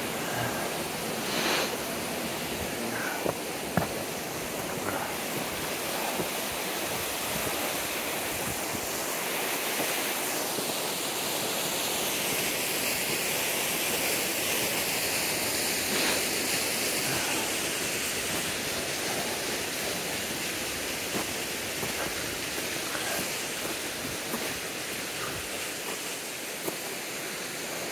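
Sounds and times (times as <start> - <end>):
stream rushing over rocks: 0.0 - 27.9.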